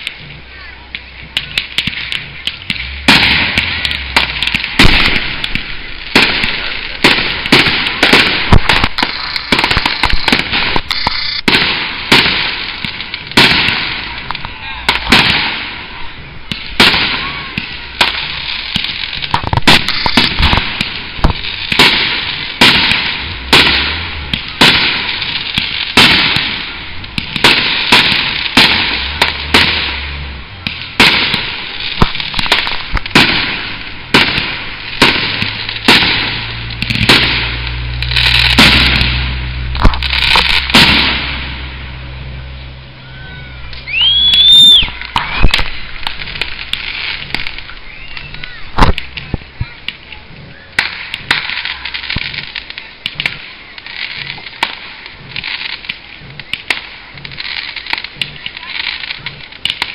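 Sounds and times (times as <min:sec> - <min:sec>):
firework shells bursting: 0:00.0 - 0:42.4, 0:43.6 - 0:59.9
fireworks crackling hiss: 0:00.0 - 0:59.9.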